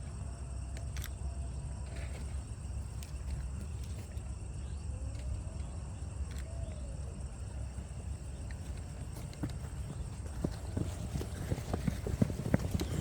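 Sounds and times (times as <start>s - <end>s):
continuous low rumble: 0.0s - 13.0s
crickets chirring: 0.0s - 13.0s.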